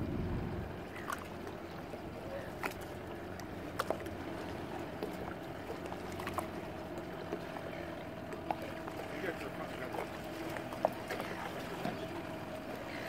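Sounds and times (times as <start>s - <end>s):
boat motor running: 0.0s - 13.0s
water slapping against hull: 0.1s - 13.0s.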